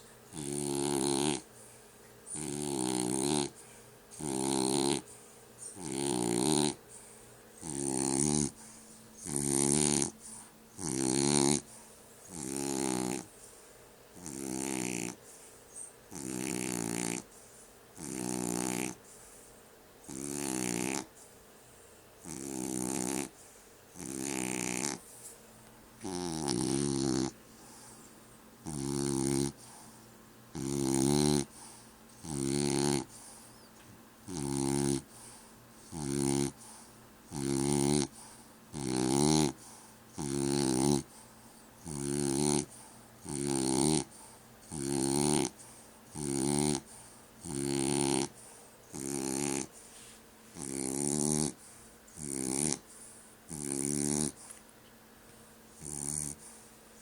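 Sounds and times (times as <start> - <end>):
dog snoring: 0.0 - 25.3, 26.0 - 54.6, 55.7 - 57.0.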